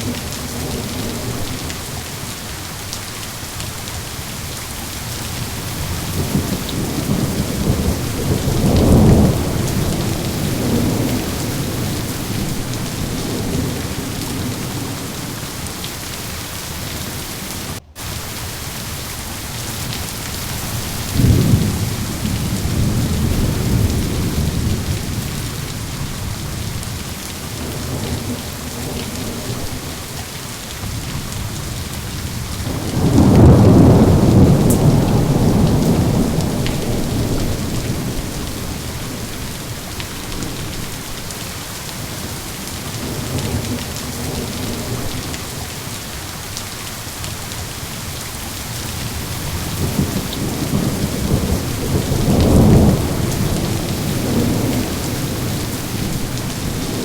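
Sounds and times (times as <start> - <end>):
thunder rumbling: 0.0 - 2.4, 5.1 - 18.9, 19.8 - 41.2, 48.8 - 57.0
steady rain falling: 0.0 - 57.0.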